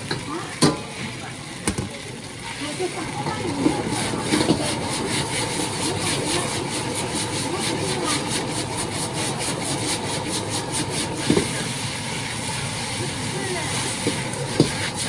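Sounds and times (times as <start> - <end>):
food sizzling: 0.0 - 15.0
gas burner rushing: 0.0 - 15.0
spatula scraping a wok: 2.4 - 15.0.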